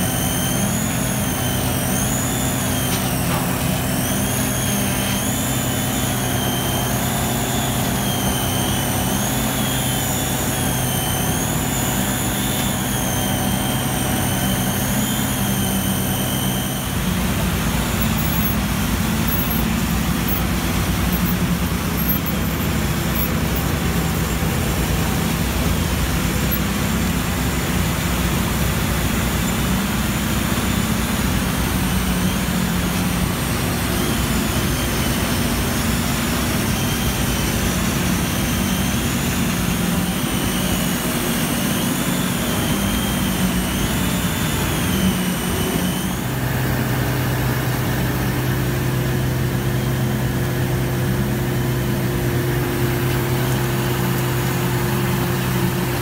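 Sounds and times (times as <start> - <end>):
faint high whine: 0.0 - 56.0
heavy diesel machinery drone: 0.0 - 56.0.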